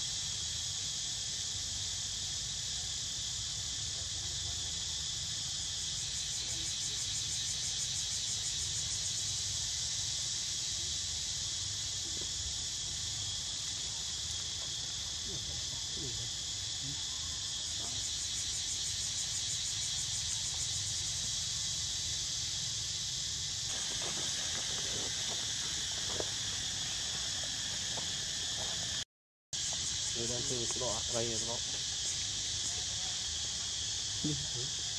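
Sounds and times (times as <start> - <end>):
insects trilling: 0.0 - 29.0, 29.6 - 34.9.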